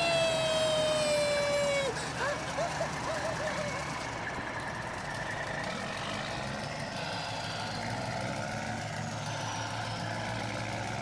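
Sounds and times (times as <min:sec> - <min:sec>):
steady engine hum: 0:00.0 - 0:11.0.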